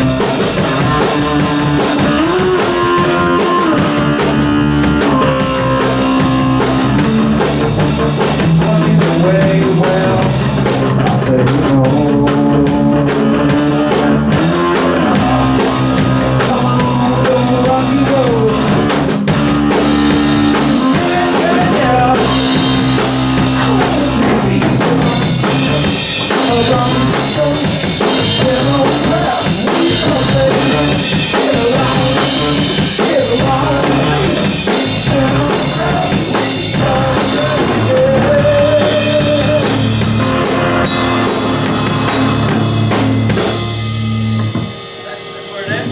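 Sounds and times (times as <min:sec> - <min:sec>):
rock music with drums and guitar: 0:00.0 - 0:45.9.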